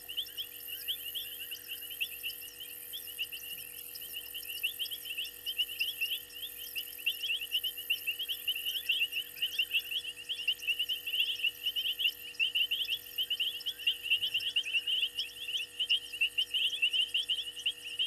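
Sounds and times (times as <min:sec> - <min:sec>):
frogs chirping: 0:00.0 - 0:18.0.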